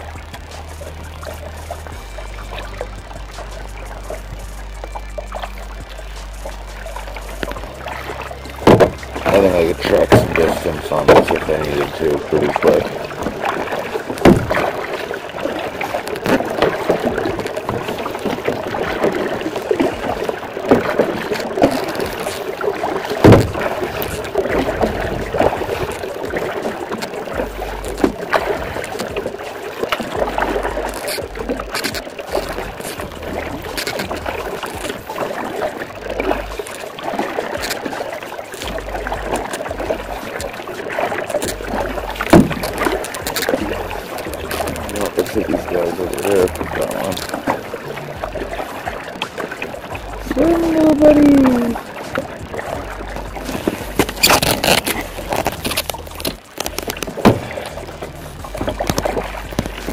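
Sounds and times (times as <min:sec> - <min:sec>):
kayak paddle splashing water: 0:00.0 - 0:59.9.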